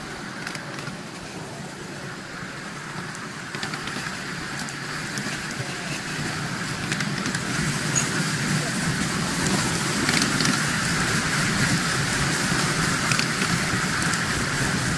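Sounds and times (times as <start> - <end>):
train wheels clattering on rails: 0.0 - 14.9.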